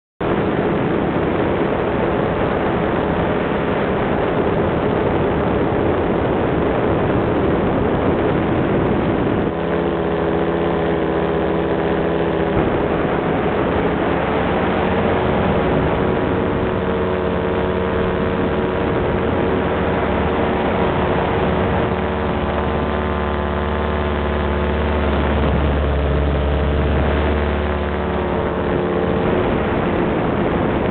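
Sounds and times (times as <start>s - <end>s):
heavy wind noise: 0.2s - 30.9s
small engine running: 0.2s - 30.9s.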